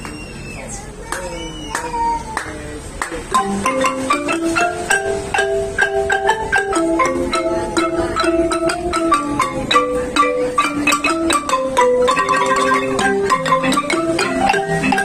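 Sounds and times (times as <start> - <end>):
wooden marimba played with mallets: 0.0 - 15.0.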